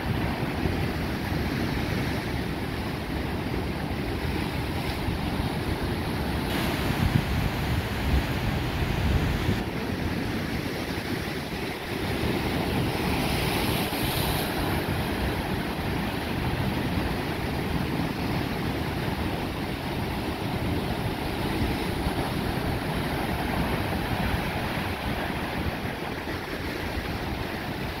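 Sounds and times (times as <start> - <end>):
ocean surf breaking over rocks: 0.0 - 28.0.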